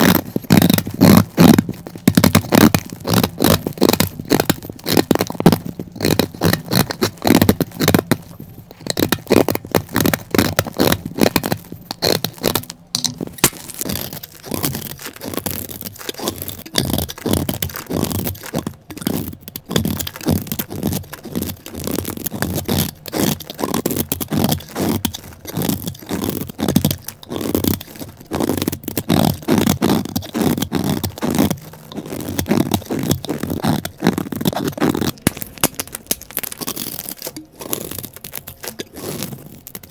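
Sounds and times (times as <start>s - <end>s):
soap crunching and scraping: 0.0s - 39.9s.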